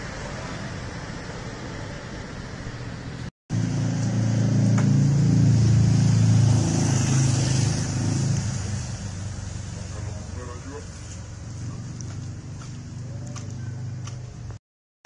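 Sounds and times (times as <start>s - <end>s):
passing engine: 0.0s - 14.6s
road traffic: 0.0s - 14.6s.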